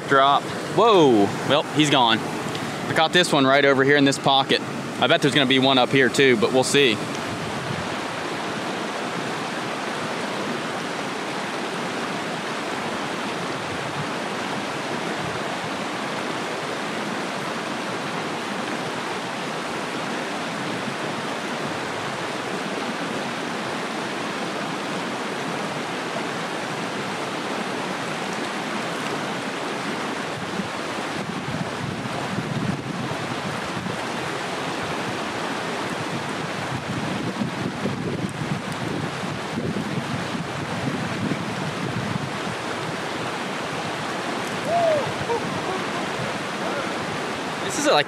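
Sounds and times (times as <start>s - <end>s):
creek rushing over rocks: 0.0s - 48.0s.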